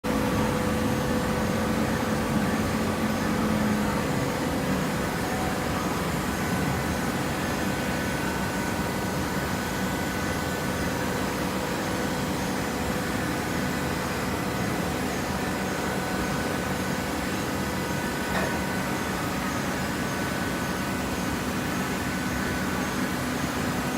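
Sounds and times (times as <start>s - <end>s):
baler machine humming and whining: 0.1s - 23.9s.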